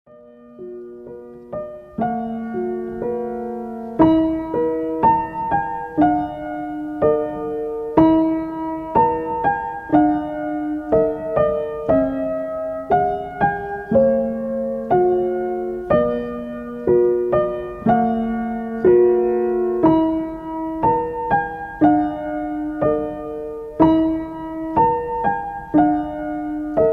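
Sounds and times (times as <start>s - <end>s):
gentle piano melody: 0.1s - 26.9s.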